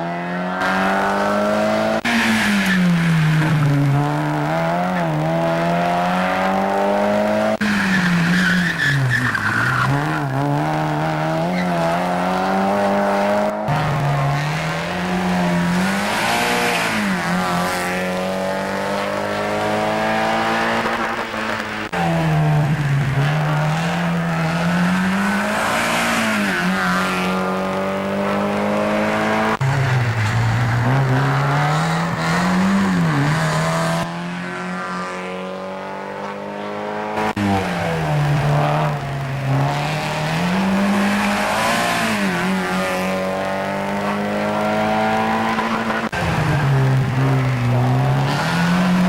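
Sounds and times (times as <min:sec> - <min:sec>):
race car engine revving: 0:00.0 - 0:49.0.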